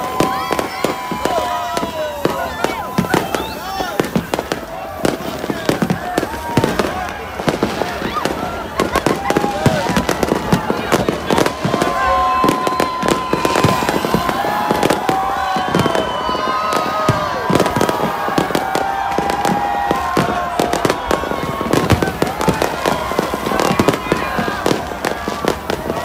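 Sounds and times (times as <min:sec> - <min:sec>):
crowd shouting: 0:00.0 - 0:26.0
fireworks bangs and crackles: 0:00.0 - 0:26.0.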